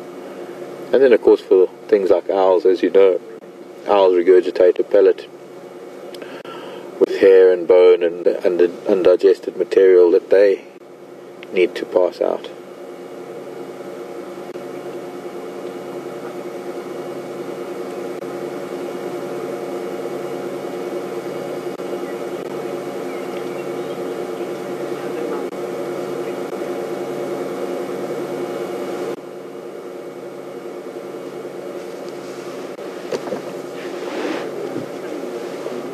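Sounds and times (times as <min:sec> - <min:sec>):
vehicle engine idling: 0:00.0 - 0:29.2.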